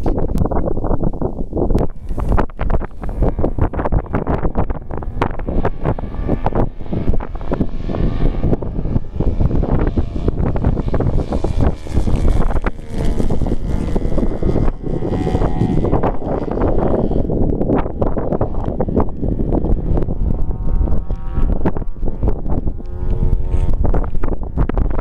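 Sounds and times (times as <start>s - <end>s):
model airplane engine drone: 0.0s - 25.0s
wind buffeting microphone: 0.0s - 25.0s.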